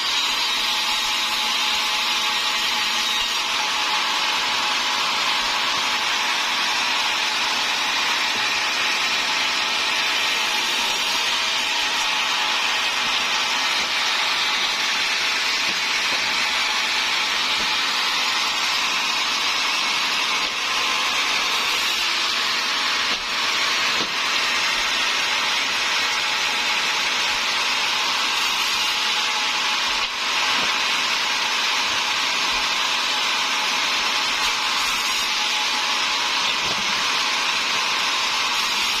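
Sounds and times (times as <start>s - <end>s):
sawmill saw cutting timber: 0.0s - 39.0s.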